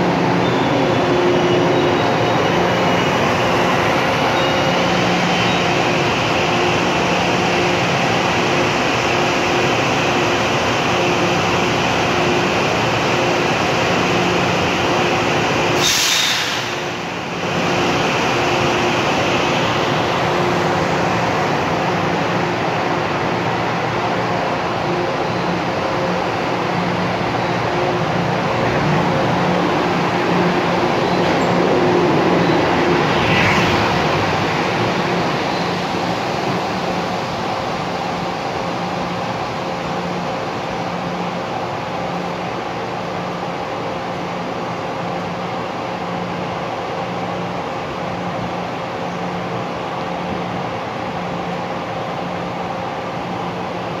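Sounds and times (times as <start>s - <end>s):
mechanical hum and hiss: 0.0s - 54.0s
train rumbling on rails: 0.0s - 54.0s.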